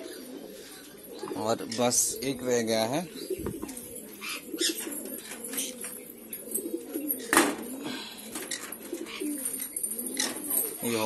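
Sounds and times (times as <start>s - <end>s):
caged birds calling: 0.0s - 11.0s.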